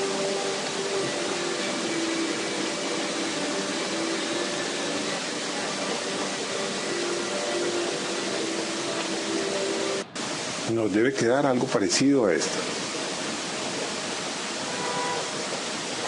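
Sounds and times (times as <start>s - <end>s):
faint humming tones: 0.0s - 16.0s
steady hiss: 0.0s - 16.0s.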